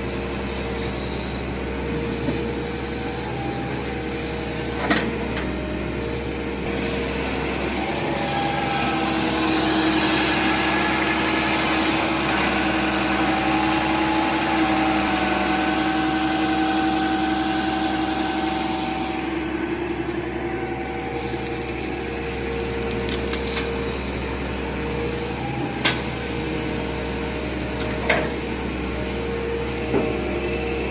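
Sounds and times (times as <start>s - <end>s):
heavy machine engine running: 0.0s - 30.9s.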